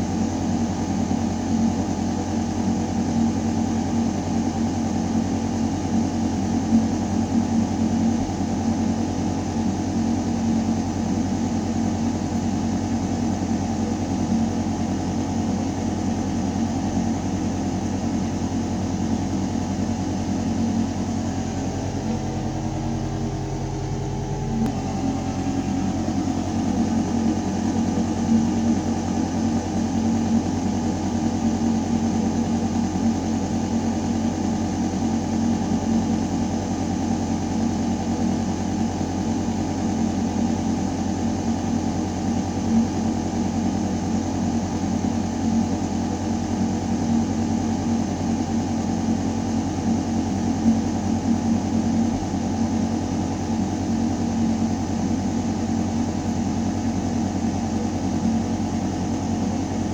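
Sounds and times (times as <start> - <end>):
ventilation low mechanical hum: 0.0 - 59.9.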